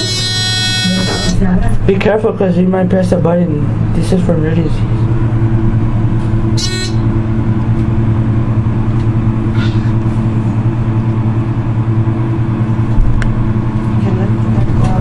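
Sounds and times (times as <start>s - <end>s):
elevator hum: 0.0s - 15.0s.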